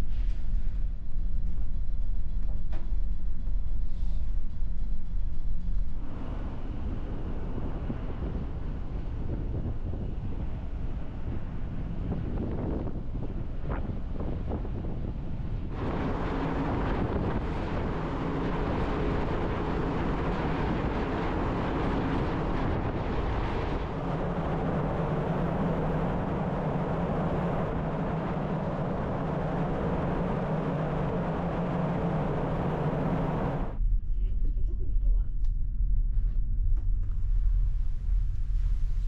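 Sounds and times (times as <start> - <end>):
ship machinery drone: 0.0 - 34.0
low hum: 0.0 - 39.0
wind on microphone: 0.0 - 39.0.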